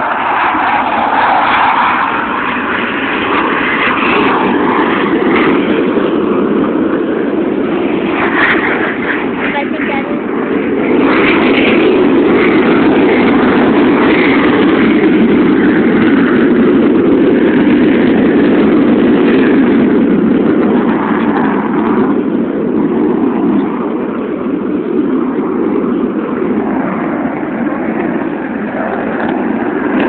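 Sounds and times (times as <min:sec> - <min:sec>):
aircraft engines passing overhead: 0:00.0 - 0:30.0.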